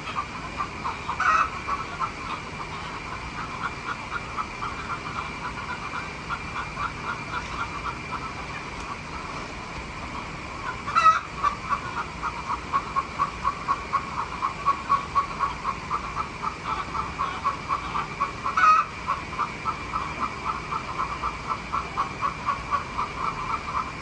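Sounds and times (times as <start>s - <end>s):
chicken calling: 0.0s - 9.4s, 10.1s - 24.0s
frogs calling: 0.0s - 24.0s
steady high hum: 0.0s - 24.0s.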